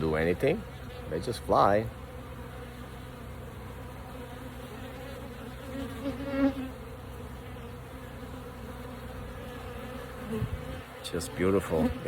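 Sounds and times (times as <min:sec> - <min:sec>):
bee buzzing close by: 0:00.0 - 0:12.0
bees buzzing: 0:00.0 - 0:12.0.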